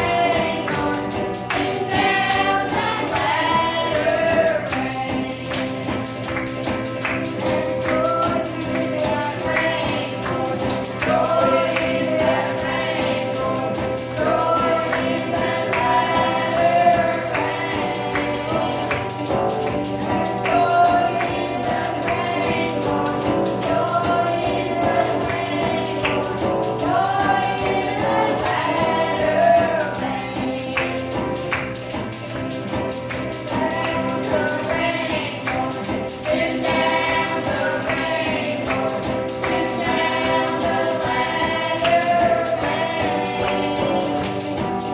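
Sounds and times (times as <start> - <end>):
children's choir singing gospel: 0.0 - 44.9
tambourine jingling: 0.0 - 44.9.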